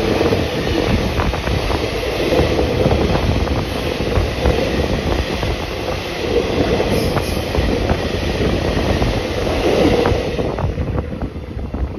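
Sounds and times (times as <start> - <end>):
freight train rumble and clatter: 0.0 - 11.9.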